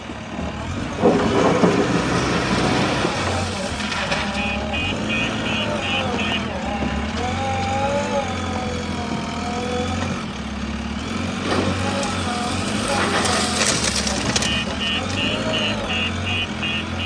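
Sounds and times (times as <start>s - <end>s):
diesel engine running: 0.0s - 17.0s
voices: 0.0s - 17.0s.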